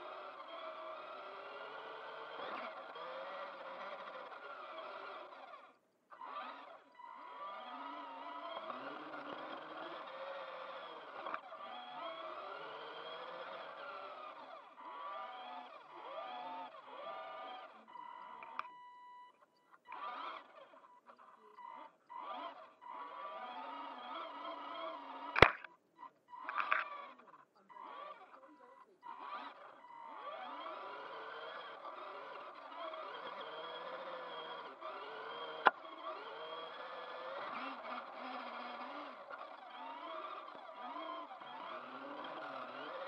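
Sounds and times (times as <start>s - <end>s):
rc car electric motor whining: 0.0s - 43.0s.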